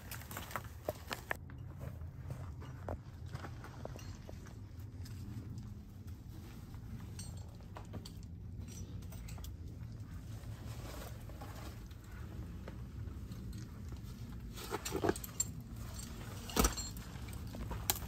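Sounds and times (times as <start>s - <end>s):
metal climbing gear clinking: 0.0s - 18.0s.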